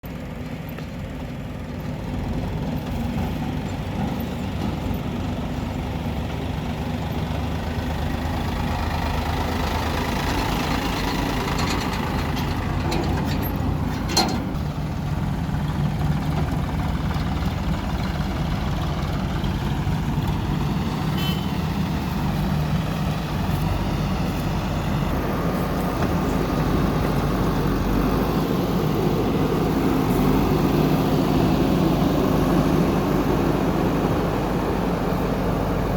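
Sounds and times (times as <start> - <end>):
diesel engine working: 0.0 - 35.9.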